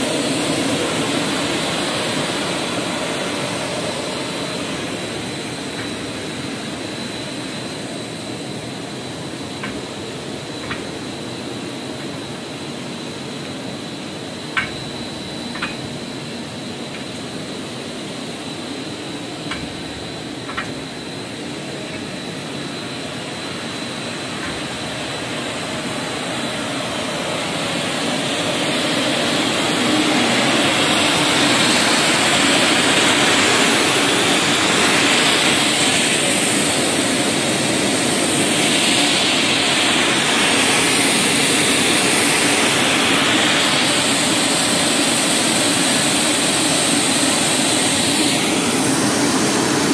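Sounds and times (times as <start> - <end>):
loud rushing hiss: 0.0 - 49.9
steady machine noise: 0.0 - 49.9.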